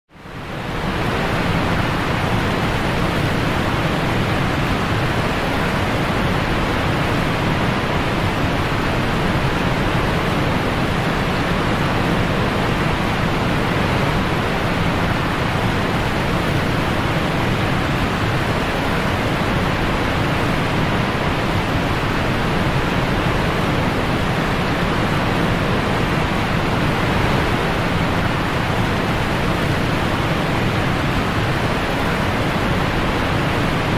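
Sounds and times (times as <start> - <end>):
whitewater rapids rushing: 0.4 - 33.9.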